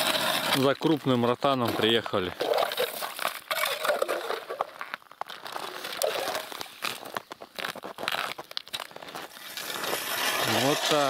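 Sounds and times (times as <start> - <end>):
ice auger scraping through ice: 0.0 - 11.0.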